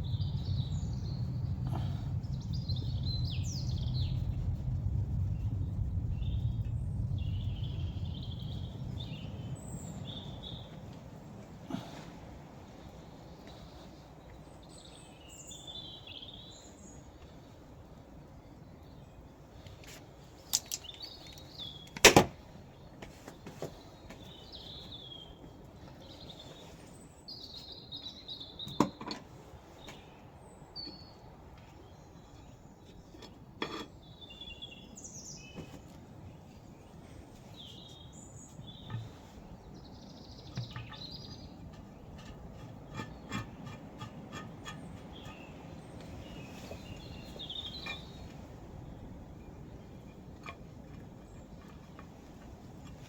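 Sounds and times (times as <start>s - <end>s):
birds chirping: 0.0s - 4.4s, 6.0s - 22.0s, 22.7s - 53.0s.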